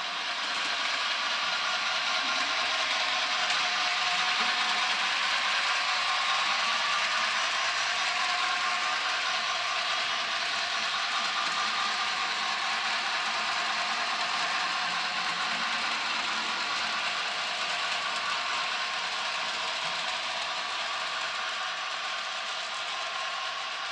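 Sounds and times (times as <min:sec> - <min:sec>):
model locomotive motor and gears: 0:00.0 - 0:23.9
model train wheels clattering: 0:00.0 - 0:23.9.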